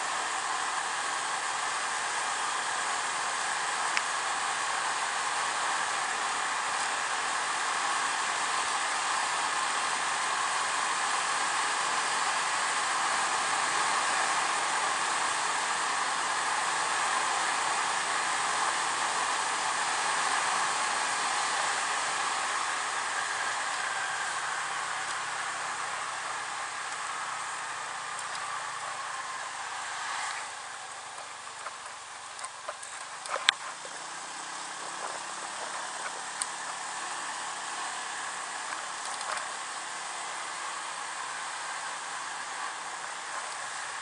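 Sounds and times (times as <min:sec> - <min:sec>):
scooter road noise: 0:00.0 - 0:44.0.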